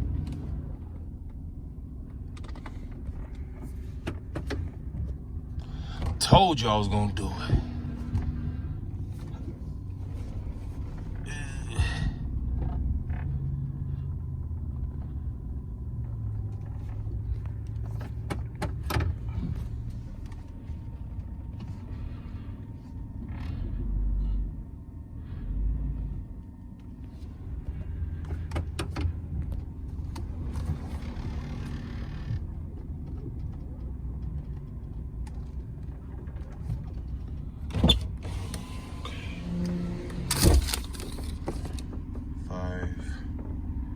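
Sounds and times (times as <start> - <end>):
truck engine low rumble: 0.0 - 43.9.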